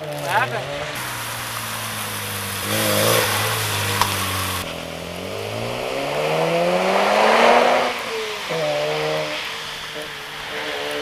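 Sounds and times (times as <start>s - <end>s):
rotary engine revving: 0.0s - 11.0s.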